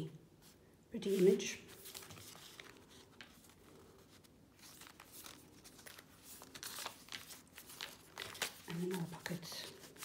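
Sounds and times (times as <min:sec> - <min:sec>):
paper pages turning: 0:01.1 - 0:10.0.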